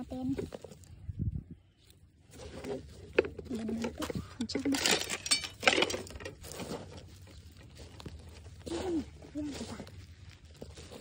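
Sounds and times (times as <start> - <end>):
digging through soil rustling: 0.0 - 5.0, 6.0 - 11.0.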